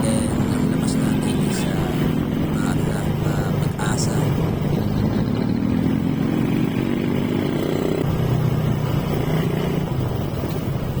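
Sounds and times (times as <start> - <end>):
motorcycle engine accelerating and cruising: 0.0 - 11.0.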